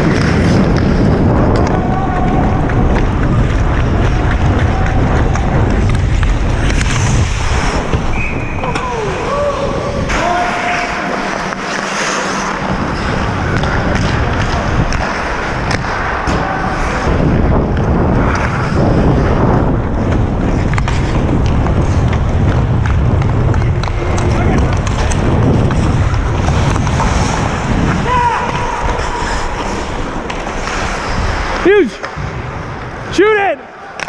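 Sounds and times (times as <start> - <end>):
hockey sticks and puck clacking: 0.0 - 9.3, 10.0 - 34.0
skate blades scraping ice: 0.0 - 9.4, 10.0 - 34.0
wind buffeting microphone: 0.0 - 10.4, 12.6 - 33.1.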